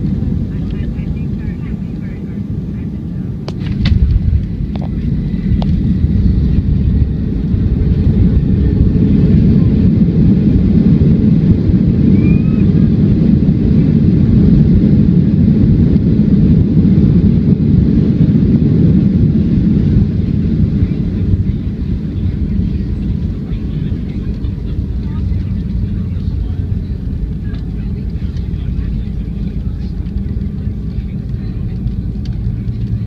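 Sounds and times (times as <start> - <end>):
airplane cabin roar: 0.0 - 33.0.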